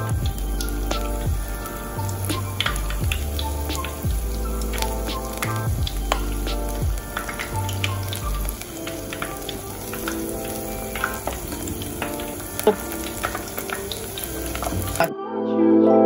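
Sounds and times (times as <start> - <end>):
fish deep-frying in hot oil: 0.0 - 15.1
soft background music: 0.0 - 16.0.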